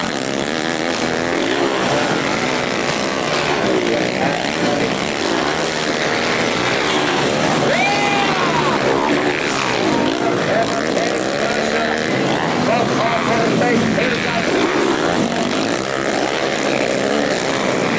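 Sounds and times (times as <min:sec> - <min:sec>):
dirt bike engines revving: 0:00.0 - 0:17.9.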